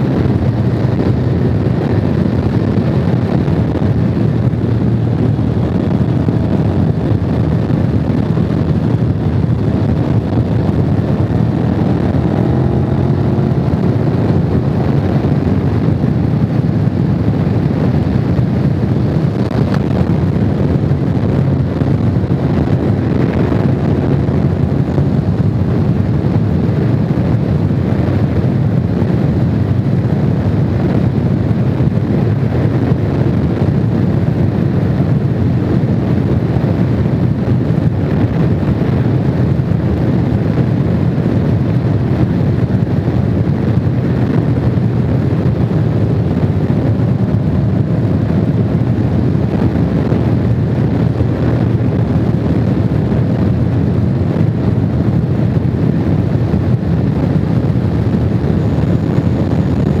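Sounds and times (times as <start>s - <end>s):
motorcycle engine cruising: 0.0s - 60.0s
wind rush on microphone: 0.0s - 60.0s.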